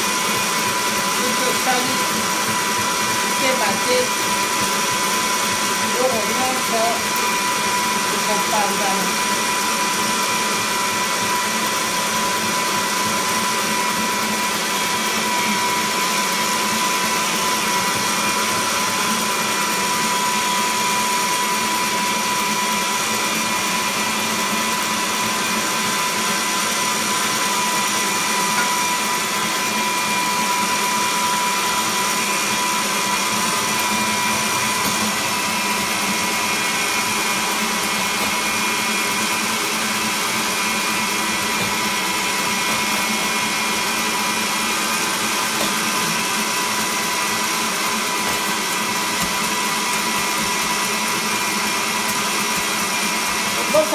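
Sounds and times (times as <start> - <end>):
stand mixer motor whining: 0.0 - 53.9.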